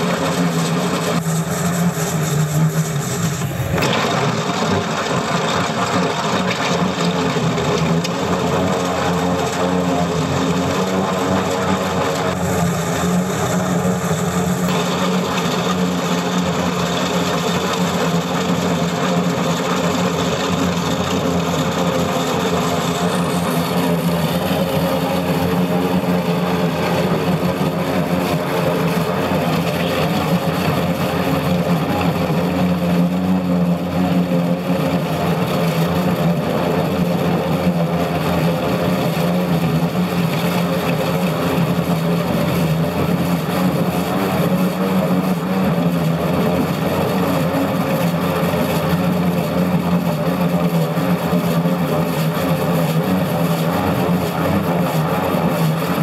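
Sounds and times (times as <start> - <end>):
diesel engine under load: 0.0 - 56.0
rock saw grinding stone: 0.0 - 56.0.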